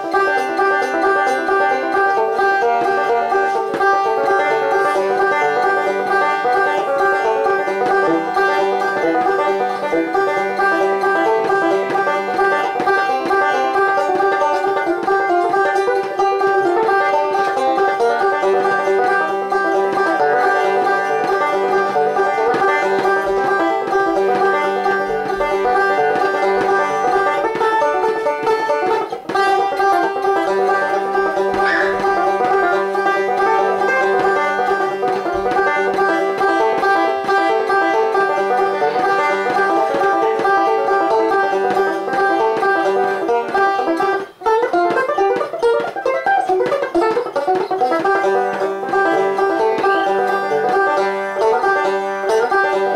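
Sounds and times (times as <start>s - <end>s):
banjo picking: 0.0s - 52.9s.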